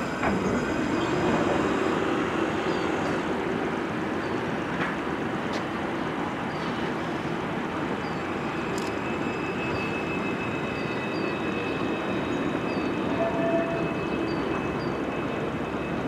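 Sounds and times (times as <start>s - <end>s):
tram running hum: 0.0s - 16.0s.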